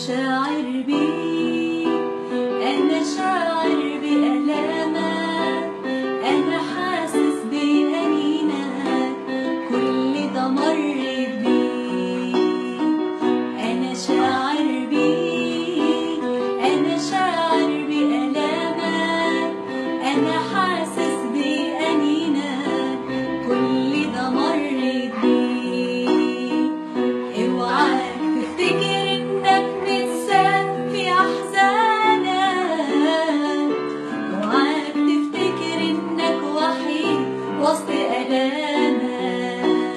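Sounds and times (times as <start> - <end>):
instrumental accompaniment: 0.0 - 39.9
person singing a hymn: 0.0 - 39.9.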